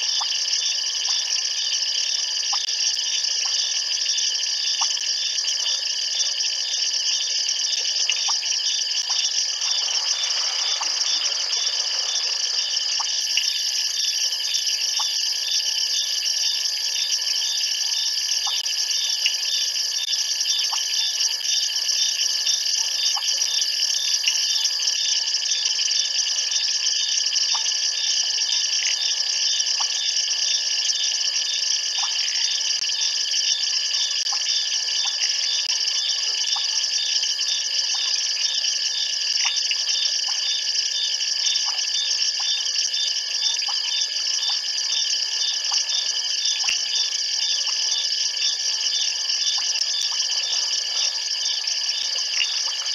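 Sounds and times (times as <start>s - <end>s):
frogs and insects trilling: 0.0s - 52.9s.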